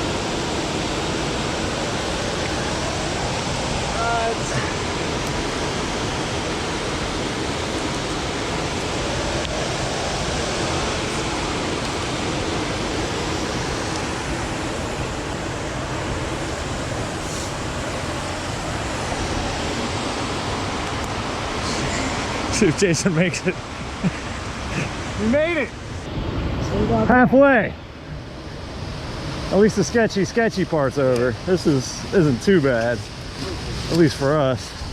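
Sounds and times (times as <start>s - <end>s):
water roaring over falls: 0.0s - 34.9s.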